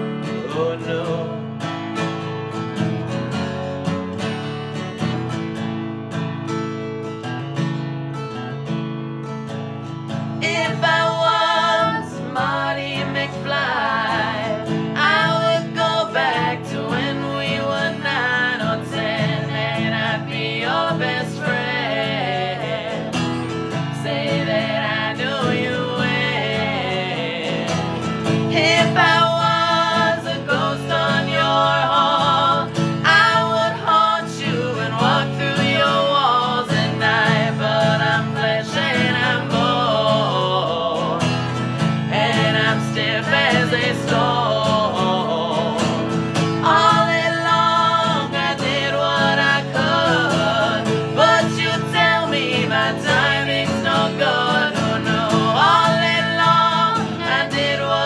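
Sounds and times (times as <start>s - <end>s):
man and woman singing duet: 0.0s - 1.7s, 10.4s - 58.0s
acoustic guitar strumming: 0.0s - 58.0s.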